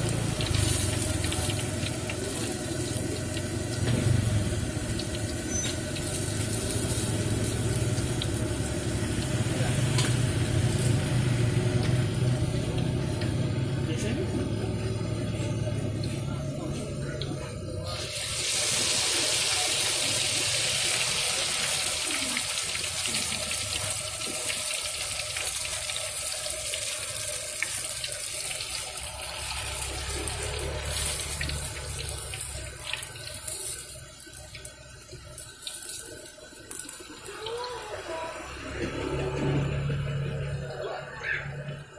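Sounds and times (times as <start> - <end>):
batter sizzling in hot oil: 0.0 - 17.0, 17.8 - 40.5.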